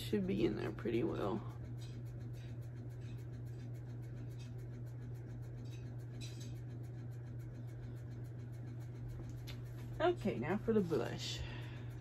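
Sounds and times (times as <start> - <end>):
steady low hum: 0.0 - 12.0
makeup brush scratching: 0.1 - 12.0.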